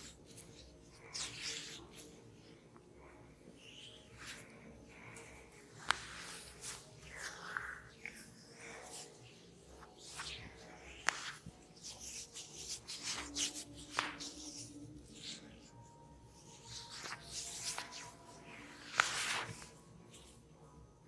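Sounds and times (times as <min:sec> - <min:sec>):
hands rustling through hair: 0:00.0 - 0:20.4.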